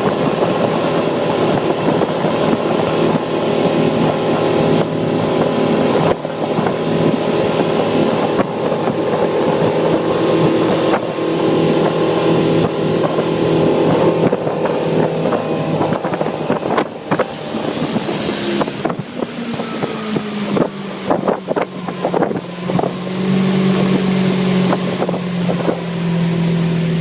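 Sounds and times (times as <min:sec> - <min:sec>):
motorboat engine running: 0:00.0 - 0:27.0
wind buffeting microphone: 0:00.0 - 0:27.0.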